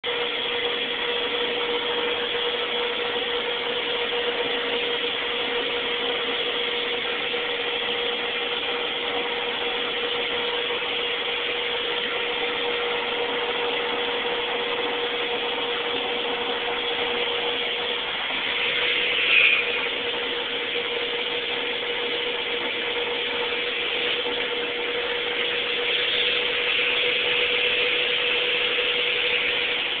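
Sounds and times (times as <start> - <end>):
shop vac running: 0.0 - 30.0.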